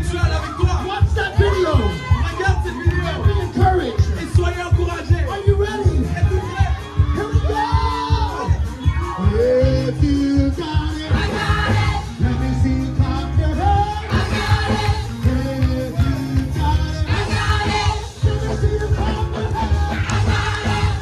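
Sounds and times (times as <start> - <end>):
bass and drum beat: 0.0 - 21.0
keyboard: 0.0 - 21.0
praise music over loudspeakers: 0.0 - 21.0
singers on microphones: 0.0 - 21.0.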